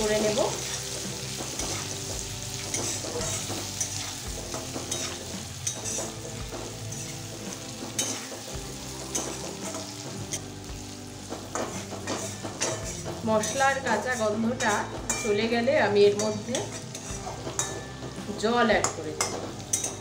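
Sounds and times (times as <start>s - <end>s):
frying oil sizzling: 0.0s - 20.0s
spatula scraping a metal wok: 0.2s - 18.1s.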